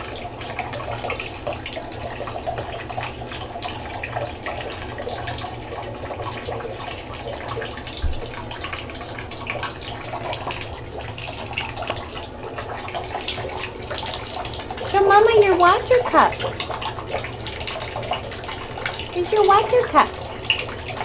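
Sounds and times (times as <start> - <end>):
small splashes and drips: 0.0 - 21.0
water running in a bathtub: 0.0 - 21.0.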